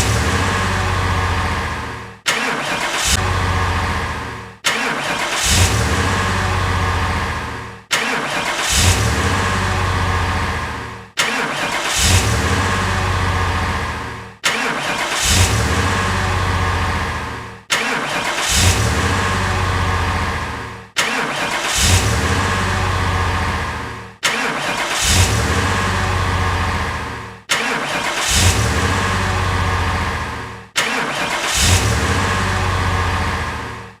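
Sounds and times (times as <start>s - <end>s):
car engine starting: 0.0s - 34.0s.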